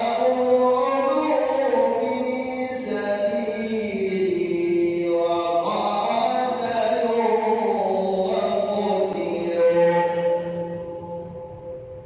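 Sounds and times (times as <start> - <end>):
man chanting melodically: 0.0 - 11.8.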